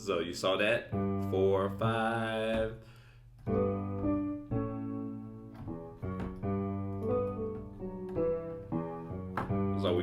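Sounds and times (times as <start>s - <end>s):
piano chords ringing: 0.2s - 10.0s.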